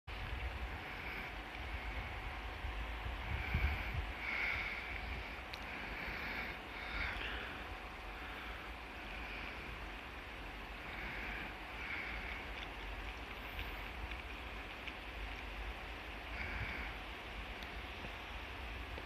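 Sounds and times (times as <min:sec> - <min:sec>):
steady outdoor hiss: 0:00.1 - 0:19.0
wind rumbling on microphone: 0:00.1 - 0:19.0.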